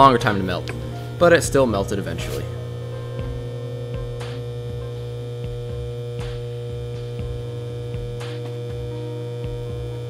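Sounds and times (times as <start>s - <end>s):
transformer humming: 0.0s - 10.0s.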